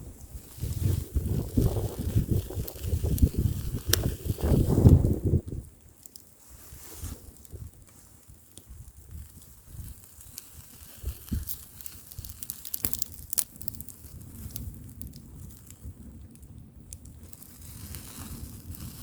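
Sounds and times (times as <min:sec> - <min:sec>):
wind buffeting microphone: 0:00.0 - 0:05.8, 0:06.7 - 0:19.0
bonfire crackling and popping: 0:00.0 - 0:19.0.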